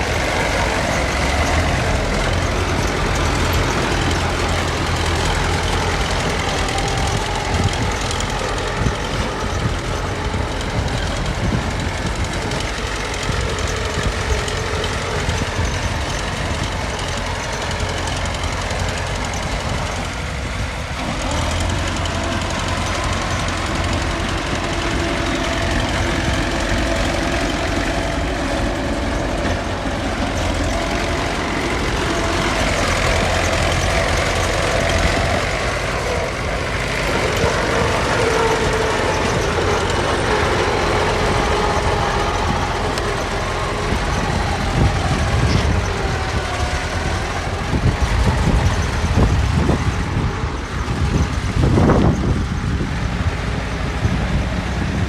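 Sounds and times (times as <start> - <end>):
diesel machinery running under load: 0.0 - 55.0.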